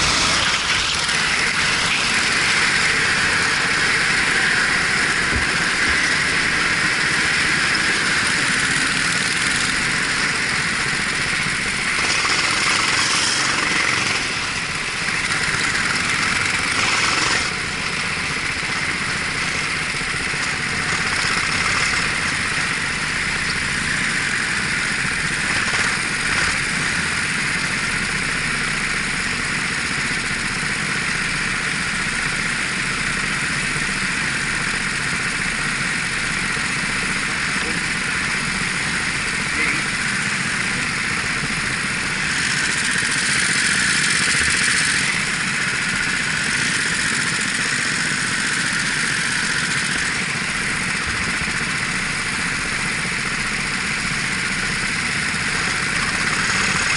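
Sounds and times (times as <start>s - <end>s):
kart engine running: 0.0s - 56.9s.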